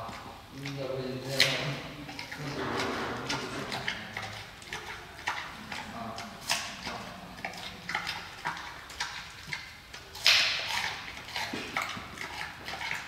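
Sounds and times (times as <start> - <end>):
panda crunching carrot: 0.0 - 13.0.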